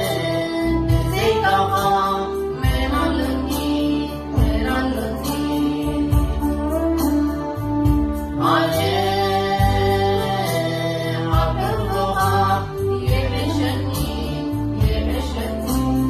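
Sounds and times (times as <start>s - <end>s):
woman singing a hymn: 0.0s - 6.7s, 8.4s - 16.0s
electronic keyboard: 0.0s - 16.0s.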